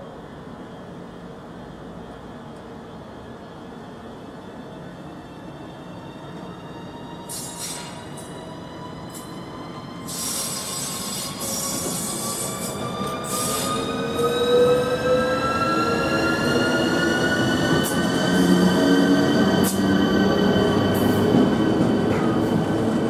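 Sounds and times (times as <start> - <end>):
electric locomotive whining past: 3.6 - 23.0.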